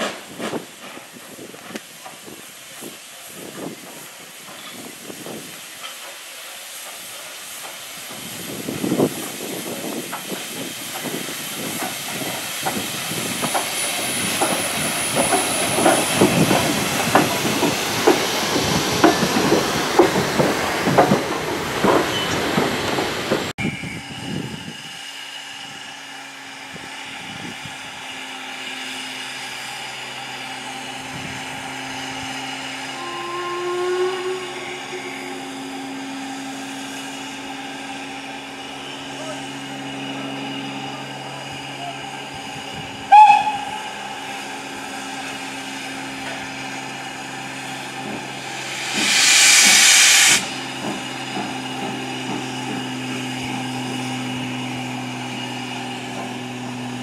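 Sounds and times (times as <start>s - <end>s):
steam hiss: 0.0s - 56.7s
steam locomotive wheels clanking: 0.0s - 57.0s.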